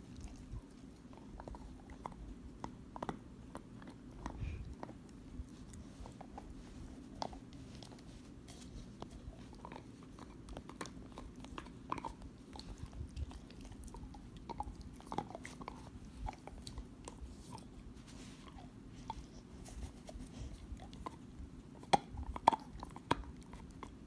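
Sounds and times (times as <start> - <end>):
dog chewing a hard bone: 0.0 - 24.0.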